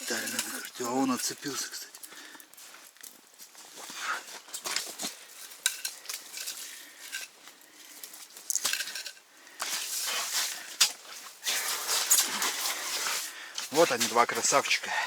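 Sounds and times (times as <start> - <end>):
fishing gear clinking and scraping: 0.0 - 2.2, 3.8 - 14.6
rustling: 0.0 - 14.6.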